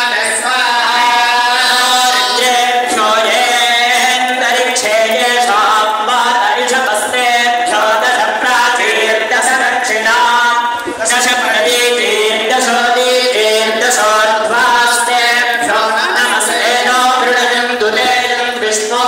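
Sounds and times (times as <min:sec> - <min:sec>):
voices chanting: 0:00.0 - 0:19.0.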